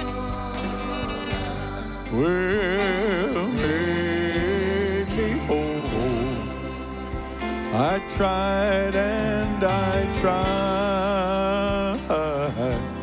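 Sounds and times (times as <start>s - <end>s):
man singing a long note: 0.0s - 6.7s, 7.6s - 13.0s
gospel band with electric bass: 0.0s - 13.0s.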